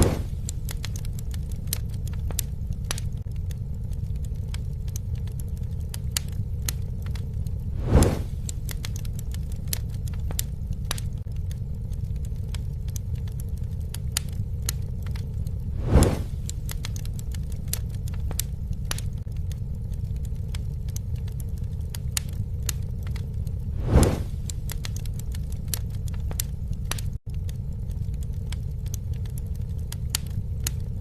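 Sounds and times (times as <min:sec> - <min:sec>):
campfire crackling and roaring: 0:00.0 - 0:31.0
fire whoosh: 0:00.0 - 0:31.0.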